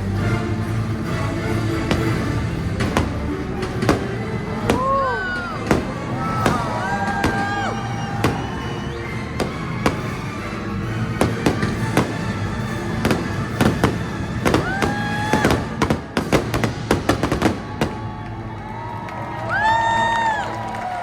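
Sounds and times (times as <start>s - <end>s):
background music: 0.0s - 21.0s
fireworks bursting: 1.6s - 18.8s.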